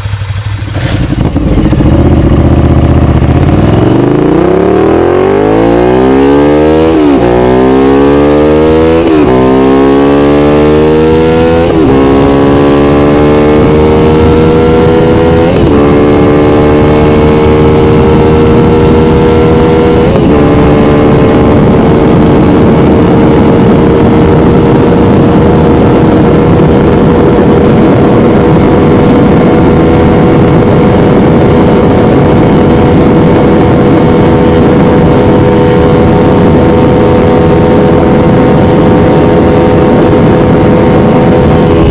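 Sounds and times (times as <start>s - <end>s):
motorcycle engine accelerating: 0.0s - 41.9s
heavy wind rush: 0.6s - 41.9s.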